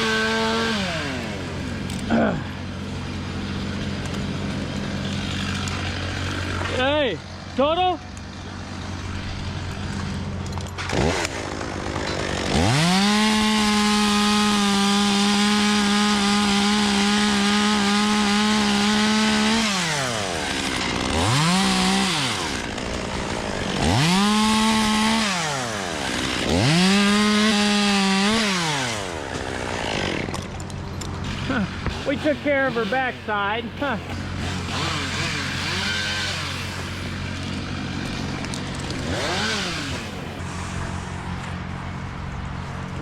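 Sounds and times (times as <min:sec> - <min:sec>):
chainsaw cutting: 0:00.0 - 0:42.4.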